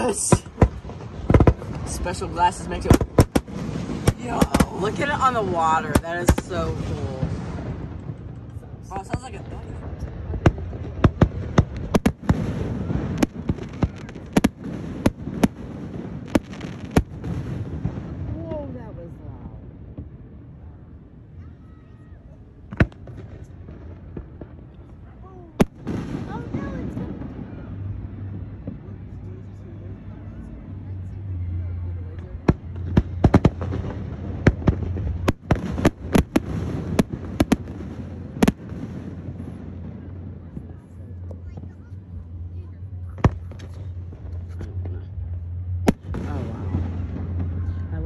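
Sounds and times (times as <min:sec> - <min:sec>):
fireworks bursting in sharp bangs: 0:00.0 - 0:18.8, 0:22.6 - 0:29.1, 0:32.3 - 0:42.4, 0:43.0 - 0:48.0
steady low rumble: 0:00.0 - 0:21.4, 0:22.1 - 0:48.0.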